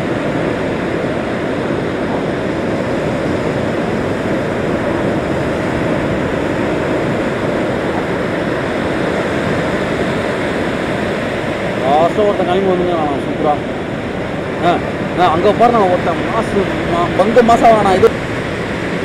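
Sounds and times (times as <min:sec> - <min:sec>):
surf waves breaking: 0:00.0 - 0:19.0.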